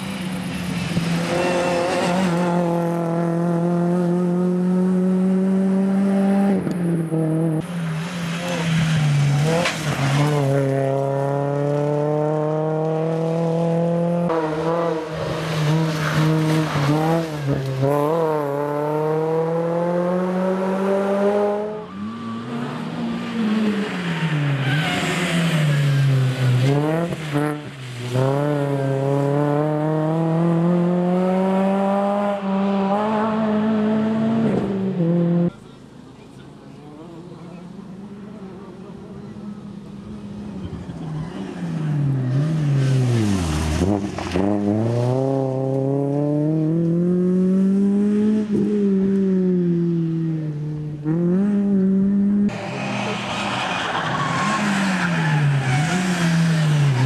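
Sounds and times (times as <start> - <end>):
rally car engine at full throttle: 0.0 - 57.0.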